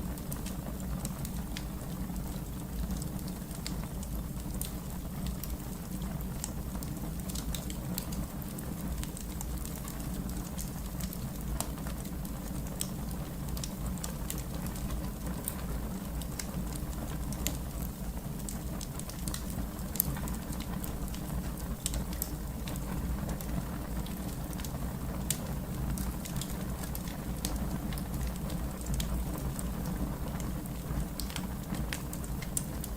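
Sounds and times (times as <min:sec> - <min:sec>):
fire crackling: 0:00.0 - 0:32.9.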